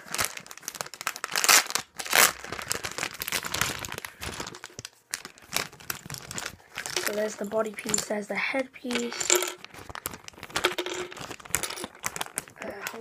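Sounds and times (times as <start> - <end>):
plastic packet tearing and crinkling: 0.0 - 8.0, 8.9 - 13.0.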